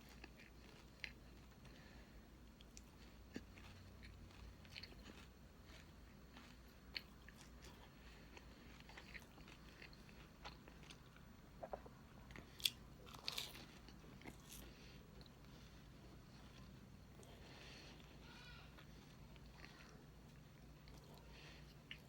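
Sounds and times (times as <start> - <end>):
person chewing cake: 0.0 - 22.0.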